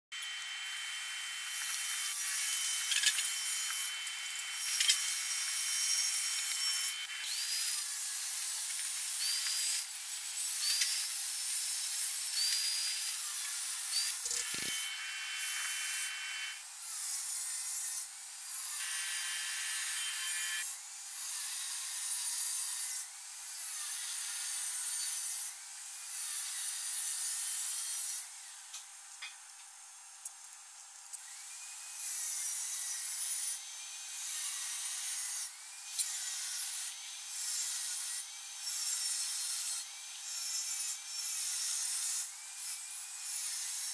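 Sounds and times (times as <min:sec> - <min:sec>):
angle grinder cutting steel pipe: 0:00.1 - 0:29.4, 0:31.2 - 0:43.9.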